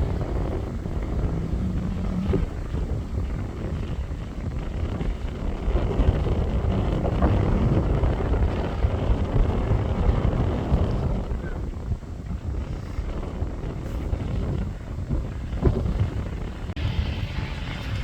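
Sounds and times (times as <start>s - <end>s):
off-road vehicle engine rumbling: 0.0s - 18.0s.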